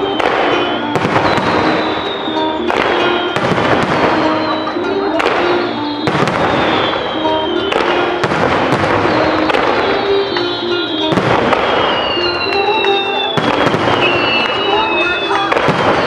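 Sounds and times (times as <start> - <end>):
fireworks crackling and bursting: 0.0 - 16.0
music playing: 0.0 - 16.0.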